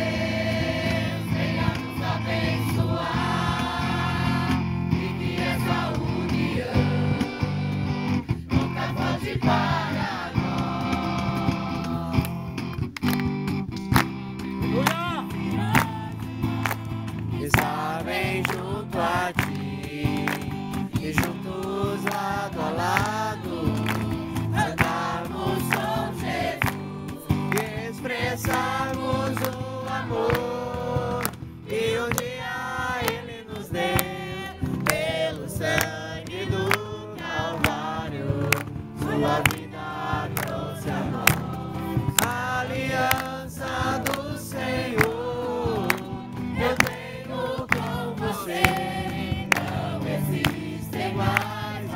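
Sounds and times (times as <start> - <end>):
group singing worship song: 0.0 - 12.6, 14.7 - 51.9
instrumental accompaniment with beat: 0.0 - 51.9.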